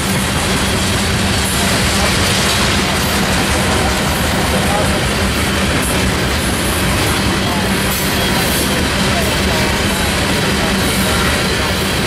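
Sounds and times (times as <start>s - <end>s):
freight train wheels on rails: 0.0s - 12.0s.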